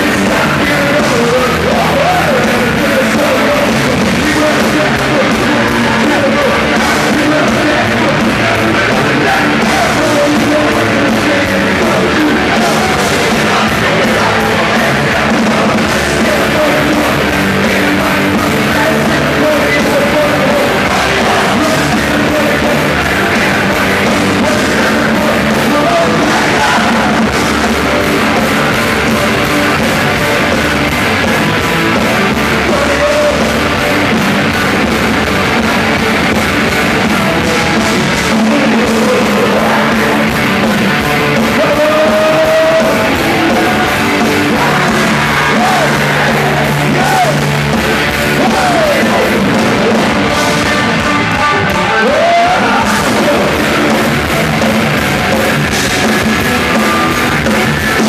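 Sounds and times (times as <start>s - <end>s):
person singing: 0.0s - 58.0s
rock band playing live: 0.0s - 58.0s.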